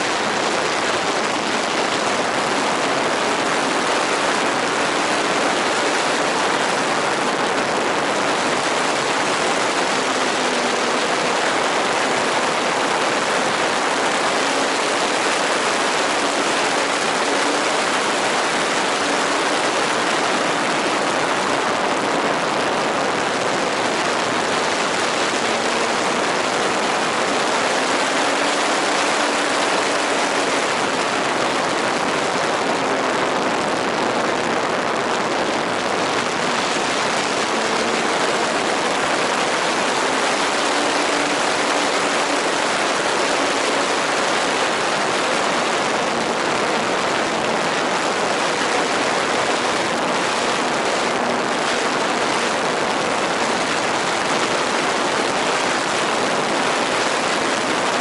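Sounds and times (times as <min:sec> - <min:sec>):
rushing air: 0:00.0 - 0:58.0.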